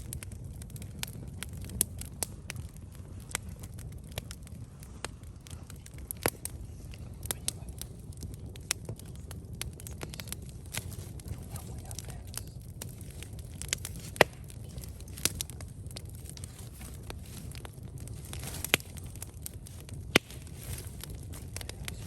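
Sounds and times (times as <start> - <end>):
campfire crackling and popping: 0.0 - 22.0
low steady rumble: 0.0 - 22.0.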